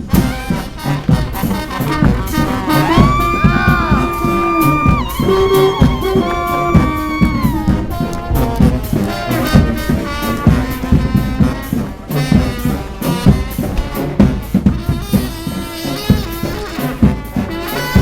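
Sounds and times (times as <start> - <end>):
brass band playing: 0.0 - 18.0
busy drums: 0.0 - 18.0
trumpets and trombones: 0.0 - 18.0.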